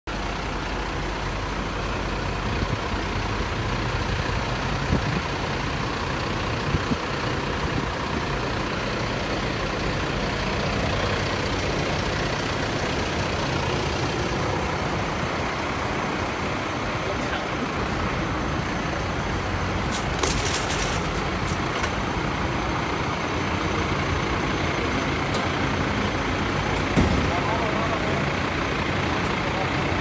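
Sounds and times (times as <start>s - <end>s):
diesel engine idling: 0.1s - 30.0s
street noise: 0.1s - 30.0s.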